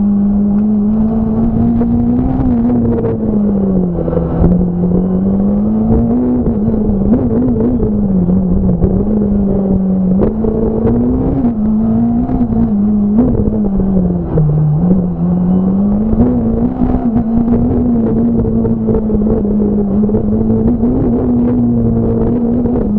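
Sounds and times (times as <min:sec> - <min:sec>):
rally car engine revving: 0:00.0 - 0:22.9.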